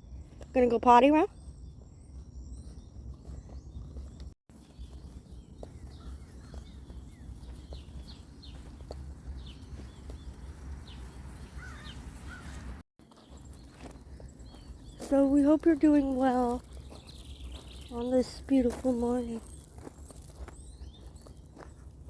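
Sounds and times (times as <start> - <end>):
high bird chirps: 0.0 - 21.8
faint footsteps: 1.4 - 22.0.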